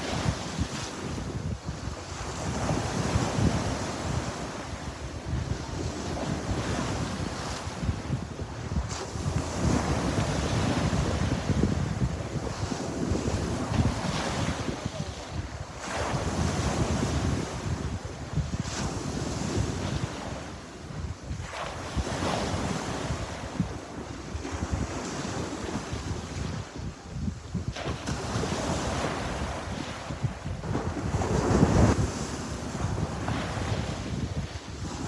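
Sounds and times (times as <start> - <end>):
sea waves breaking on shore: 0.0 - 35.0
wind buffeting microphone: 0.0 - 35.0.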